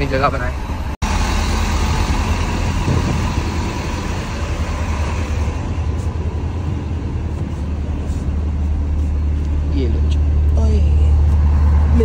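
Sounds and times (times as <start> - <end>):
bus engines idling: 0.0 - 12.0.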